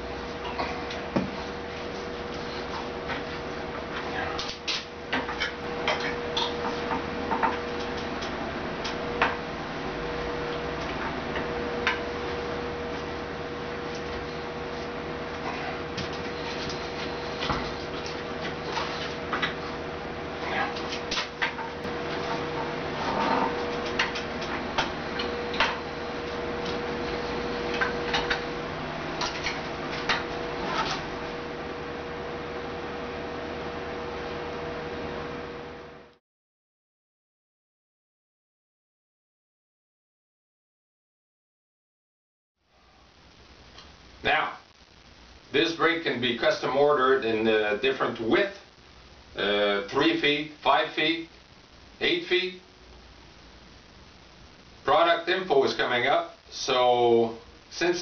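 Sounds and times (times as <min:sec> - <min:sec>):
steady hum: 0:00.0 - 0:36.2, 0:42.6 - 0:58.0.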